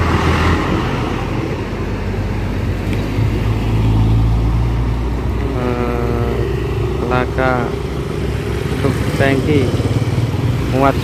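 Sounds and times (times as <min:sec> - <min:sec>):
bus engine rumbling past: 0:00.0 - 0:11.0
road traffic noise: 0:00.0 - 0:11.0.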